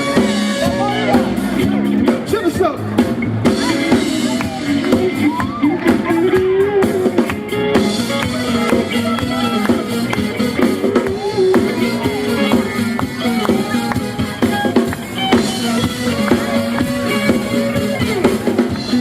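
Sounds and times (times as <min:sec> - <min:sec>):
bass line: 0:00.0 - 0:19.0
drum kit beat: 0:00.0 - 0:19.0
funk band playing: 0:00.0 - 0:19.0
gliding lead melody: 0:00.0 - 0:19.0.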